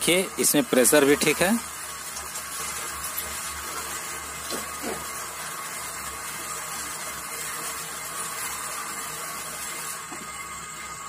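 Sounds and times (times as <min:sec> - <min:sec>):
water pouring into plastic bucket: 0:00.0 - 0:10.3
water pump running: 0:00.0 - 0:11.0.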